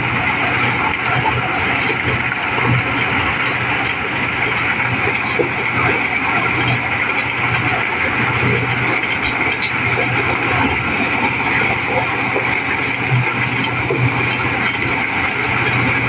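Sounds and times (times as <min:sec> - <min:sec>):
corn sheller engine droning: 0:00.0 - 0:16.0.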